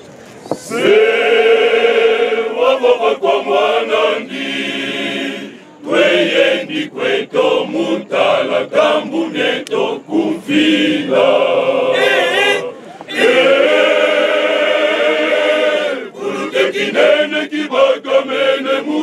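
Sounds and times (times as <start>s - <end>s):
men's choir singing: 0.5s - 19.0s.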